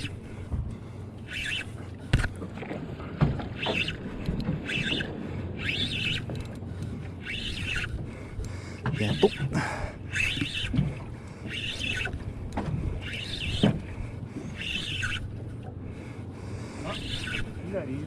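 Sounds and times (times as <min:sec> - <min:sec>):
fishing reel whirring: 0:00.0 - 0:00.4, 0:01.2 - 0:02.3, 0:03.5 - 0:15.6, 0:16.7 - 0:18.0
water and boat noise: 0:00.0 - 0:18.0.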